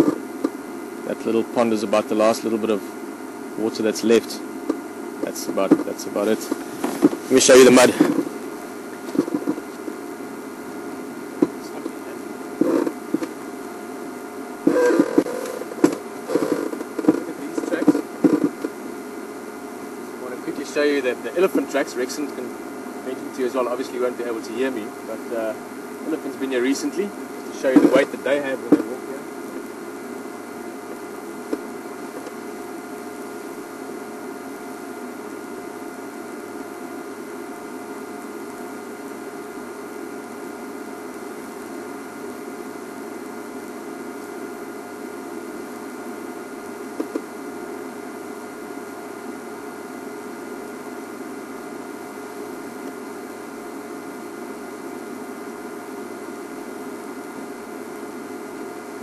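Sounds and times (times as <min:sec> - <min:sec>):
faint steady tones: 0:00.0 - 0:59.0
steady hiss: 0:00.0 - 0:59.0.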